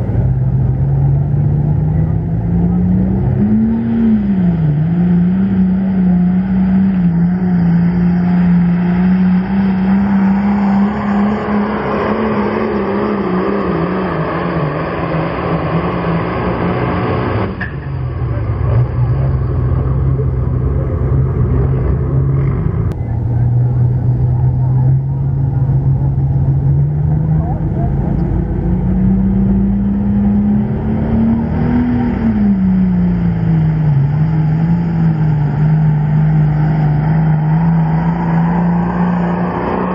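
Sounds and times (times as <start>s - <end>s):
tractor diesel engine under strain: 0.0s - 39.9s.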